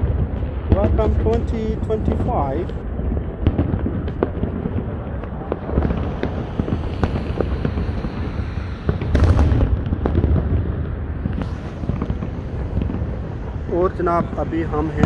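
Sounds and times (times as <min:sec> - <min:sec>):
fireworks bursting: 0:00.0 - 0:15.0
sharp firework cracks: 0:00.0 - 0:15.0.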